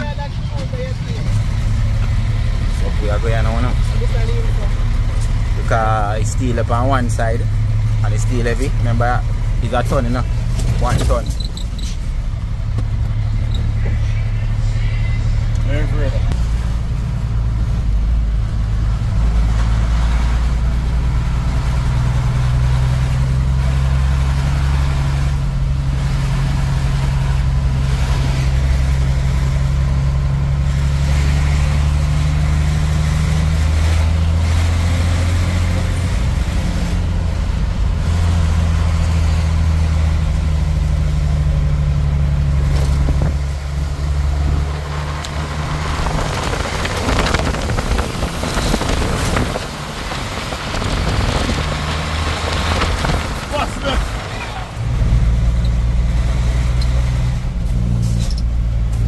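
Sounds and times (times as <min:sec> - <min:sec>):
truck engine droning in cab: 0:00.0 - 0:59.0.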